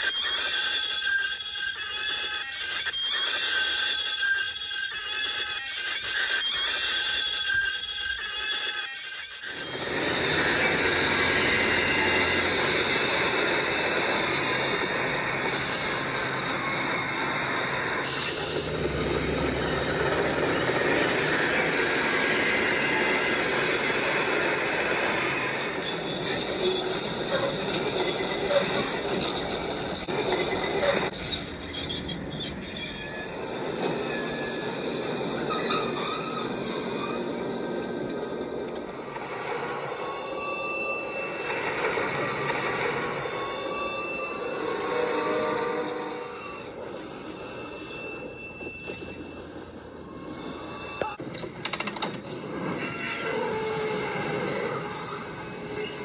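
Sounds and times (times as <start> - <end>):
train brakes and wheels grinding: 5.2 - 56.0
faint brake squeal: 7.4 - 56.0.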